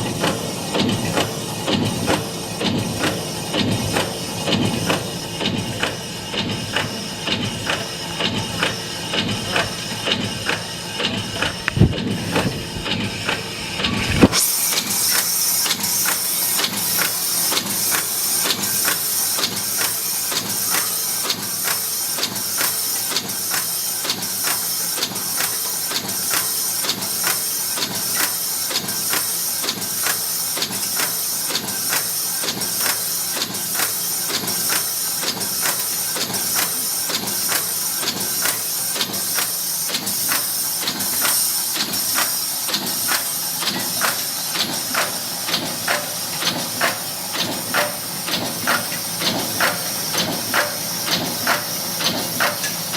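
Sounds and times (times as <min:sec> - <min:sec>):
press strokes clacking: 0:00.0 - 0:52.9.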